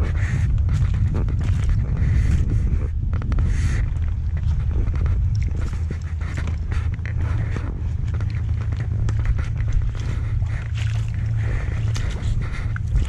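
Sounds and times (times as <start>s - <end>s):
footsteps crunching in mud and rubble: 0.0s - 13.0s
wind rumble on microphone: 0.0s - 13.0s.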